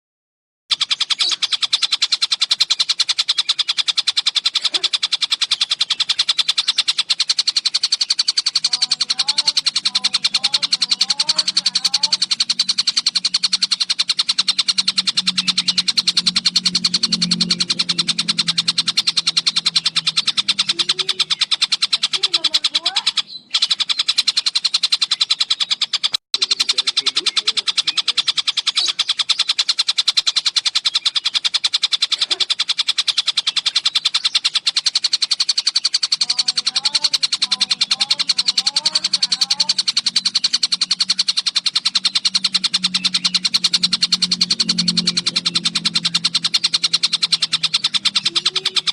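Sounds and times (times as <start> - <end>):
kingfisher calling: 0.7 - 48.9.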